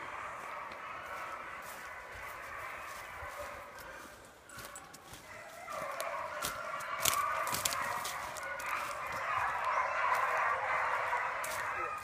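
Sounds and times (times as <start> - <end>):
dogs baying: 0.0 - 12.0
leaves and twigs crackling underfoot: 0.2 - 12.0.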